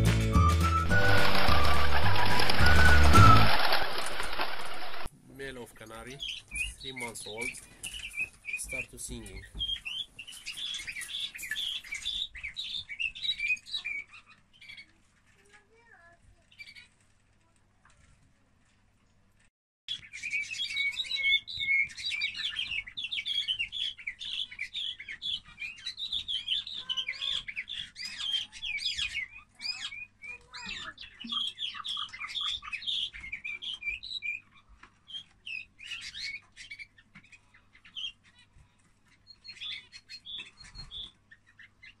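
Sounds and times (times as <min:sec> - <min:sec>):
canary chirping and trilling: 0:00.8 - 0:42.0.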